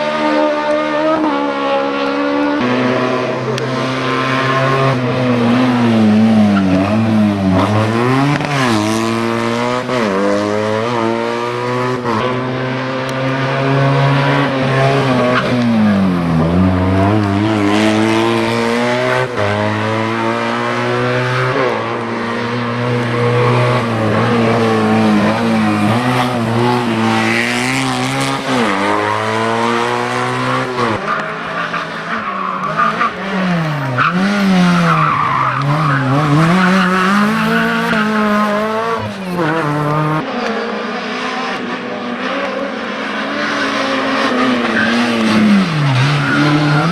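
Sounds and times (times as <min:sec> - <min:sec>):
race car engine revving hard: 0:00.0 - 0:46.9.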